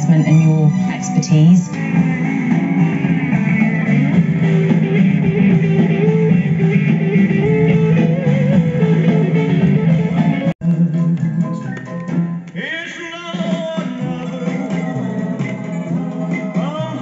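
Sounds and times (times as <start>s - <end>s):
guitar rock music: 0.0s - 17.0s.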